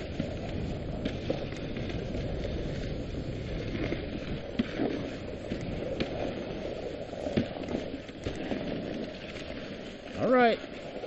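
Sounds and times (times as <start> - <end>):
sled runners hissing on snow: 0.0 - 10.4.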